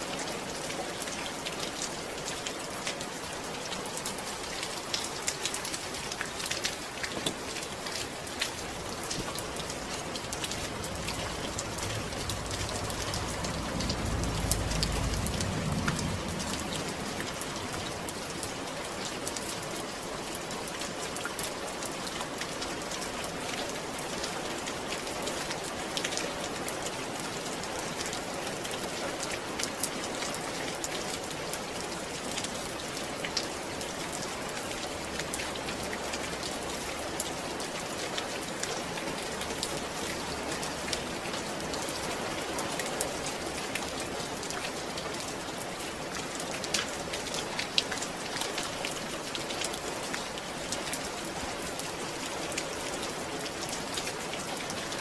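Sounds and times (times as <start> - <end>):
rain falling on a surface: 0.0 - 55.0.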